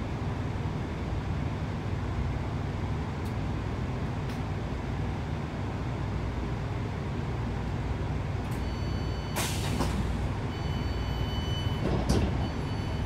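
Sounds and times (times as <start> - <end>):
train engine and wheels rumbling: 0.0 - 13.0.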